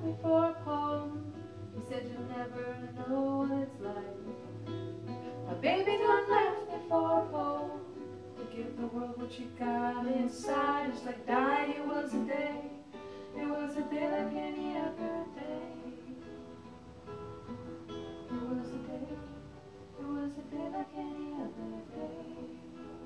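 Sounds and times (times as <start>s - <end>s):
women singing: 0.0s - 4.5s, 5.2s - 16.4s, 18.3s - 23.0s
acoustic guitar: 0.0s - 23.0s.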